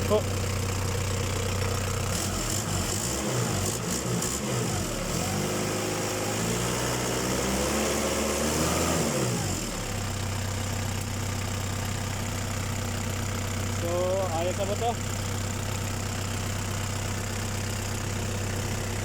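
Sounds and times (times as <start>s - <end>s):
diesel engine revving and idling: 0.0s - 19.0s.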